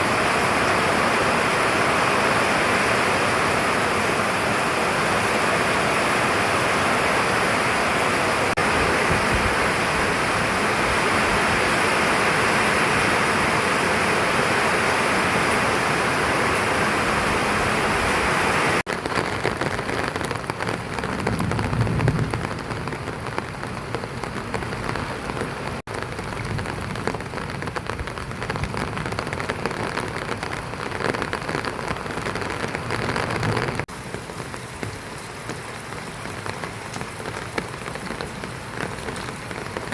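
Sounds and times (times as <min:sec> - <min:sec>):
heavy rain hissing: 0:00.0 - 0:39.9
raindrops hitting a surface: 0:00.0 - 0:39.9.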